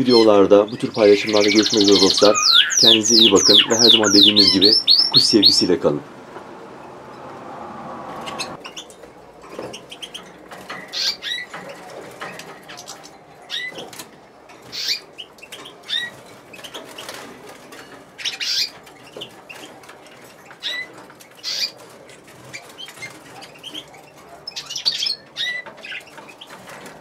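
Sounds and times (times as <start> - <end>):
canaries chirping: 0.0 - 27.0.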